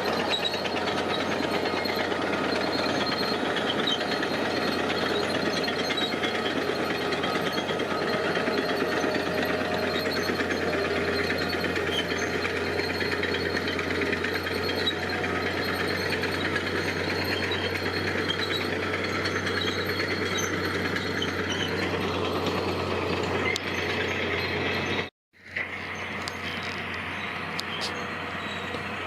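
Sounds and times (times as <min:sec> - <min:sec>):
diesel engine clattering: 0:00.0 - 0:29.0.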